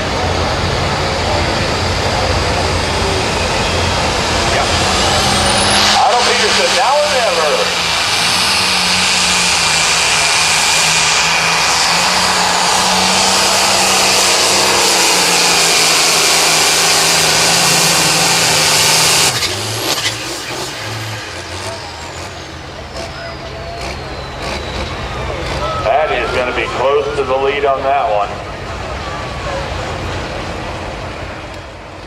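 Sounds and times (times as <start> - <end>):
diesel tractor engine at full throttle: 0.0 - 32.0.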